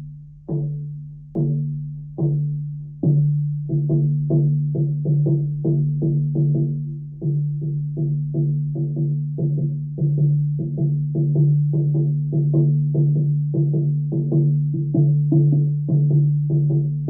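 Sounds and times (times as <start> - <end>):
frame drum beaten steadily: 0.4 - 17.0.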